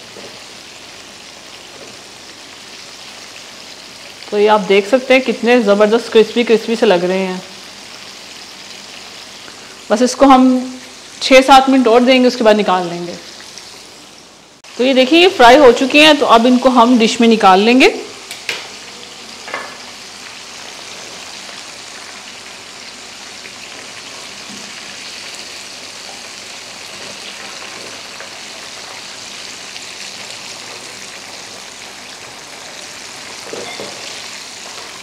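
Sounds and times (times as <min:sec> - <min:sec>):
chicken wings sizzling in oil: 0:00.0 - 0:35.0.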